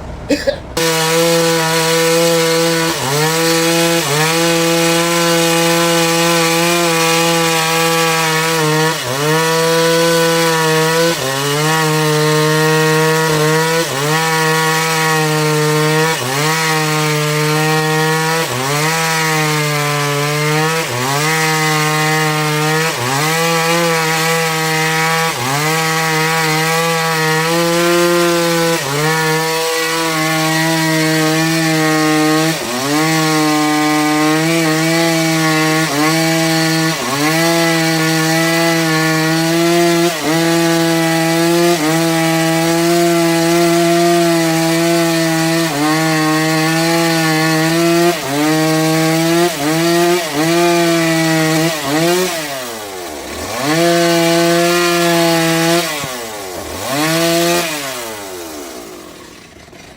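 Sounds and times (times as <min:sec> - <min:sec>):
band saw whining through log: 0:00.0 - 0:59.9.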